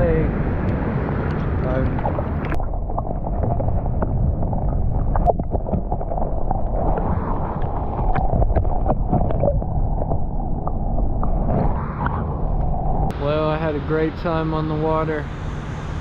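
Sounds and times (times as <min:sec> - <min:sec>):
muffled underwater rush of water: 0:00.0 - 0:16.0.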